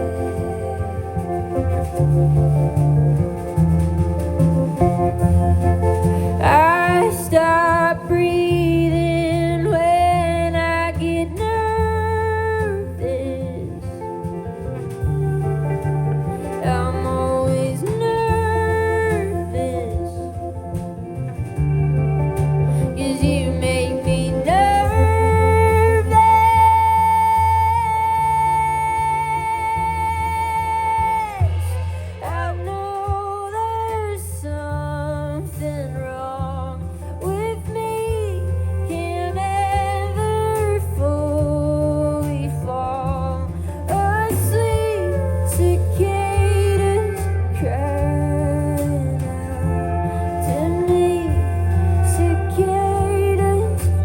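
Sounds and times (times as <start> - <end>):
woman singing slow song: 0.0 - 3.4, 5.6 - 54.0
guitar accompaniment: 0.0 - 54.0.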